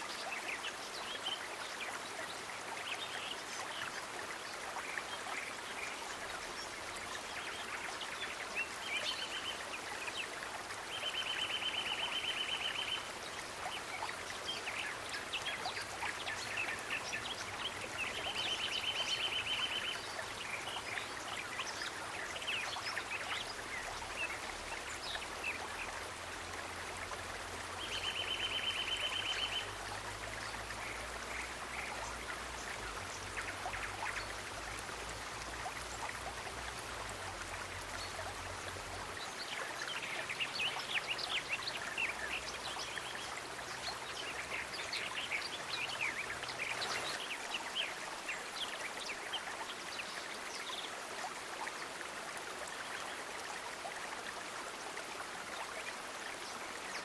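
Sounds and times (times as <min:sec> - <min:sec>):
running water stream: 0:00.0 - 0:57.0.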